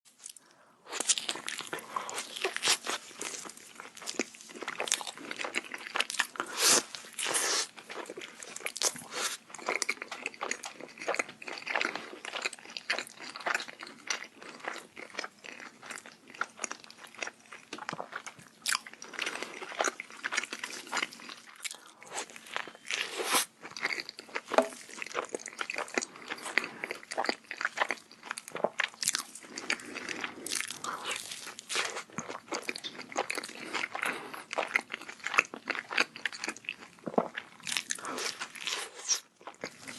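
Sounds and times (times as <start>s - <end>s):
chewing burger with wet crunches: 1.1s - 39.9s.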